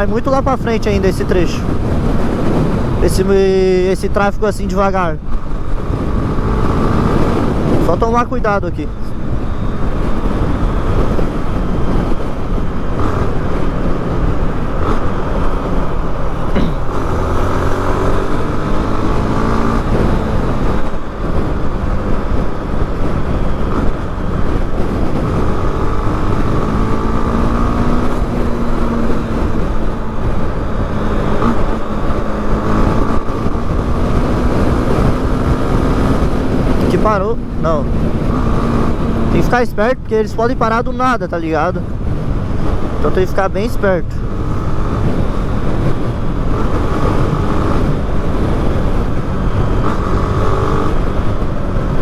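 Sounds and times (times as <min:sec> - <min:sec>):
motorcycle engine accelerating: 0:00.0 - 0:52.0
wind and road noise: 0:00.0 - 0:52.0.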